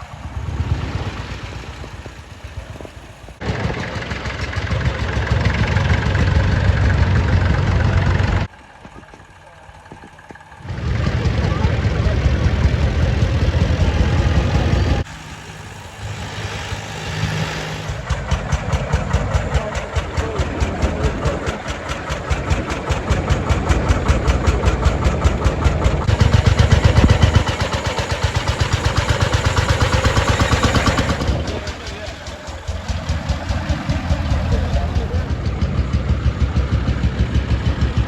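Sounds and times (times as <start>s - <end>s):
single-cylinder engine beating: 0.0s - 38.0s
tractor engines running: 0.0s - 38.0s.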